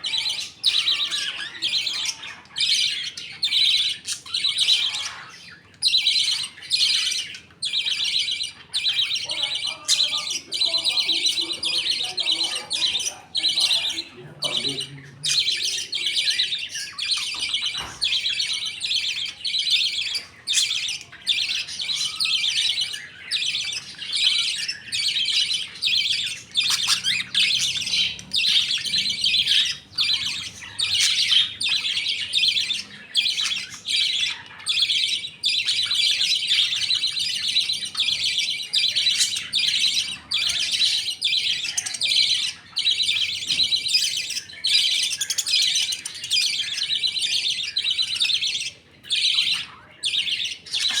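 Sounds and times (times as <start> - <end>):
budgerigars chattering and chirping: 0.0 - 51.0.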